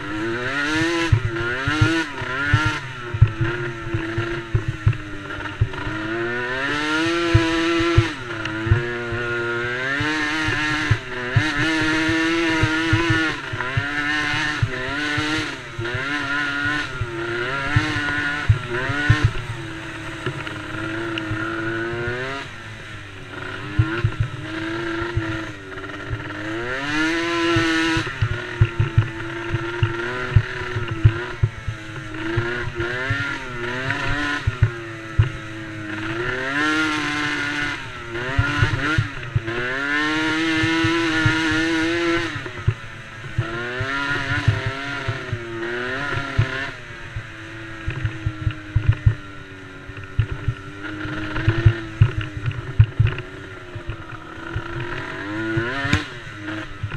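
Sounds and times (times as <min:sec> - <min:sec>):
quad engines revving: 0:00.0 - 0:56.9.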